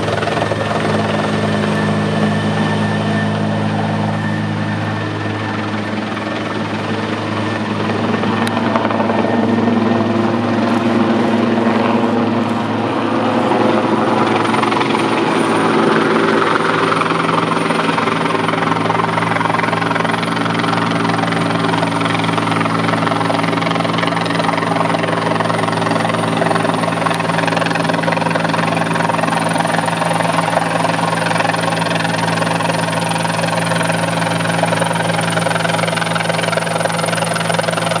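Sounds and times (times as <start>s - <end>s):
helicopter hovering: 0.0s - 38.0s.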